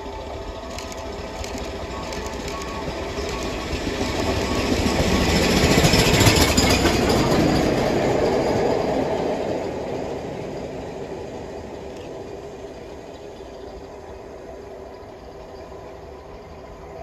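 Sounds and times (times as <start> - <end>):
steam train passing: 0.0 - 17.0.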